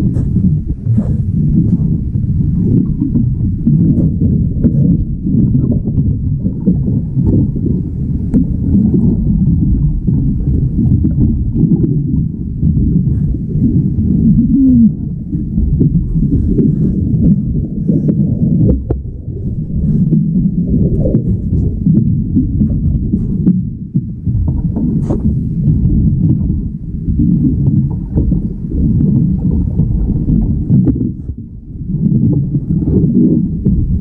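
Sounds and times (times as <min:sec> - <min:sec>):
muffled underwater rumble and slosh: 0:00.0 - 0:34.0.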